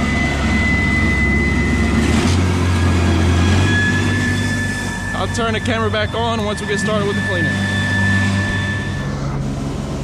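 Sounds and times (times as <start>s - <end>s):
cleaning machine engine hum: 0.0s - 10.0s
high machine whine: 0.0s - 10.0s.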